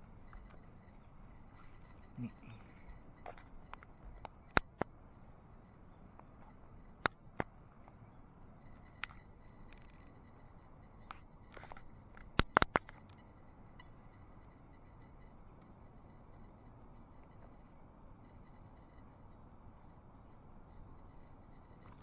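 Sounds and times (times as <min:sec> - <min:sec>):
faint thin motor whine: 0:00.0 - 0:22.0.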